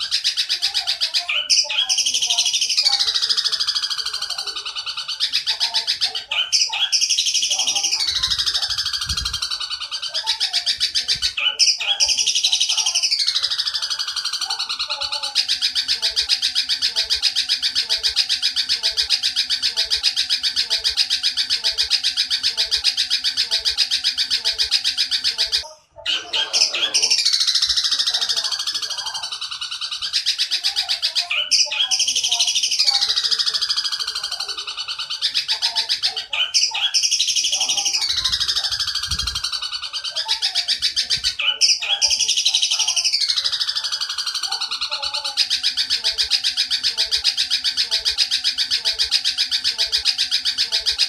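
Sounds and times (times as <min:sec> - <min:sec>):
sparrow chattering: 0:00.0 - 0:51.0.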